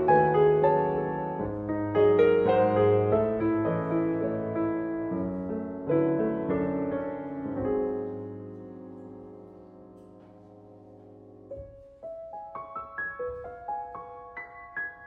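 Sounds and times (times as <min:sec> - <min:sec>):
solo piano chords: 0:00.0 - 0:15.0.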